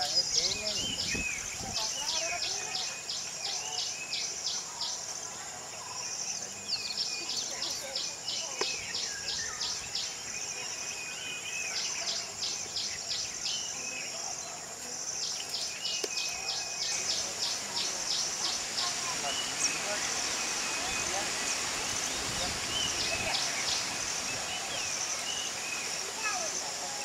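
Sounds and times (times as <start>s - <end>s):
birds chirping: 0.0s - 27.0s
insects chirping: 0.0s - 27.0s.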